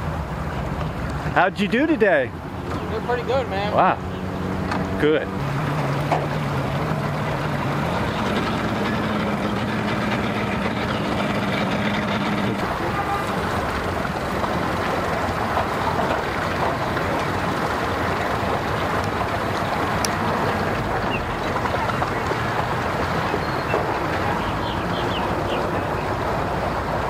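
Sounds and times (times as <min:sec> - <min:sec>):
outboard motor hum: 0:00.0 - 0:27.0
rough engine rumble: 0:00.0 - 0:27.0.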